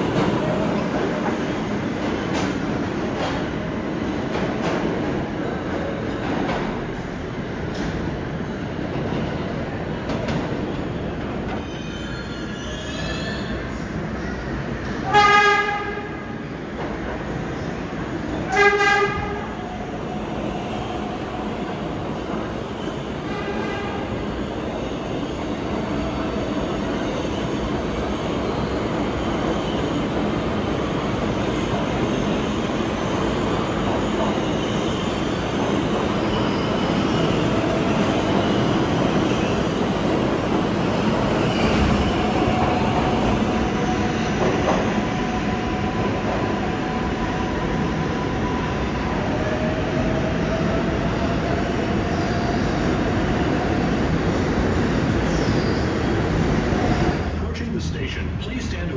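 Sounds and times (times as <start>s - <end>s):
subway train running: 0.0s - 58.9s.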